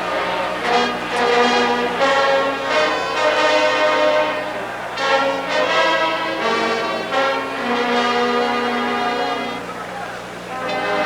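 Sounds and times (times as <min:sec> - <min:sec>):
marching band brass chord: 0:00.0 - 0:11.0.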